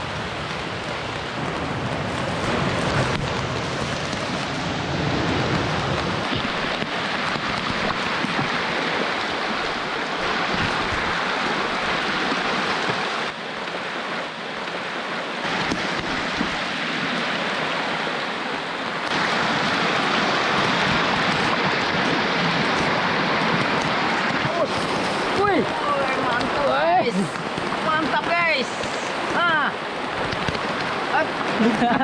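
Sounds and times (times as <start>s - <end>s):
flowing water: 0.0s - 32.0s
heavy rain on river: 0.0s - 32.0s.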